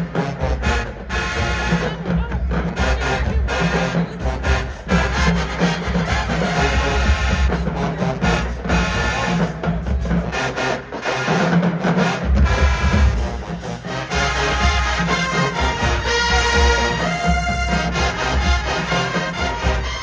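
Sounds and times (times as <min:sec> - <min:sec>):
heavy bass drums: 0:00.0 - 0:10.9, 0:11.7 - 0:20.0
marching band brass: 0:00.0 - 0:20.0.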